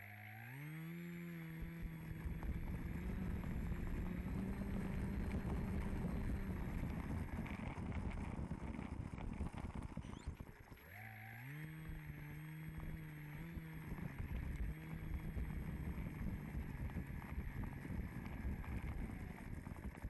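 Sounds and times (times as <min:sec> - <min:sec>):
model airplane motor whine: 0:00.0 - 0:20.0
wheels rumbling on pavement: 0:01.4 - 0:20.0.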